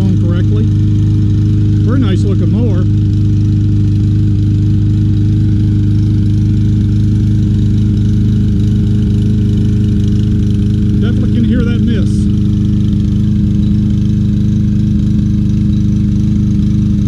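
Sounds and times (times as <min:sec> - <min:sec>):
mower engine misfiring: 0:00.0 - 0:17.0.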